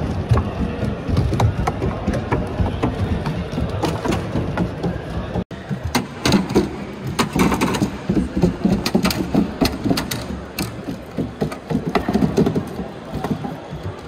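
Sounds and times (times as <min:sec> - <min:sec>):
robot feet tapping on wooden boards: 0:00.0 - 0:14.0.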